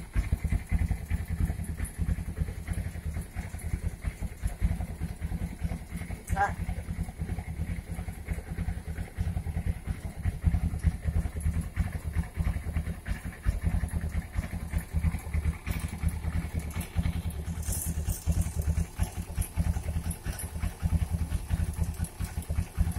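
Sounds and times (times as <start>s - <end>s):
fast rattling tick: 0.0s - 22.9s
motorcycle engine idling: 0.0s - 22.9s.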